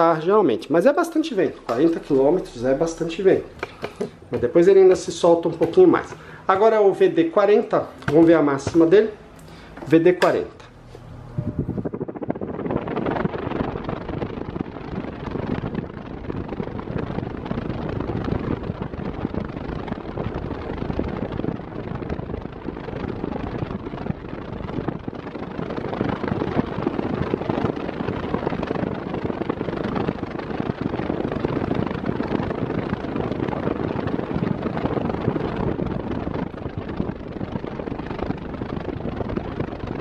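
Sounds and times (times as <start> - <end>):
fan airflow rushing: 0.0 - 40.0.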